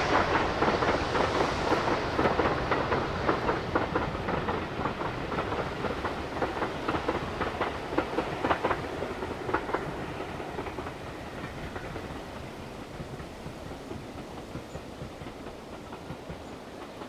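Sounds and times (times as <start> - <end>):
train rumble: 0.0 - 17.0
train wheels clacking over rail joints: 0.0 - 17.0.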